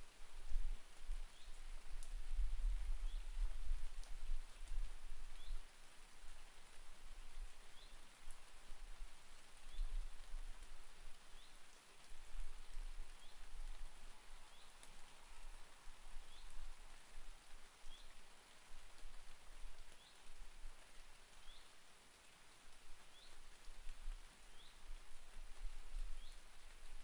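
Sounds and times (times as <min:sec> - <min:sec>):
rain on leaves and paving: 0:00.0 - 0:27.0.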